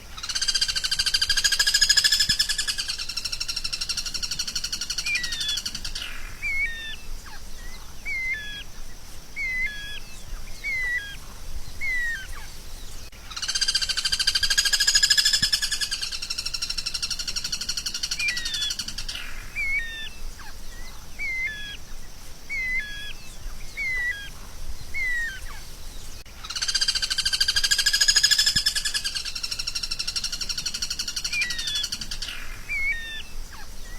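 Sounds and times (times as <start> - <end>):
recorded songbird trill: 0.0 - 33.9.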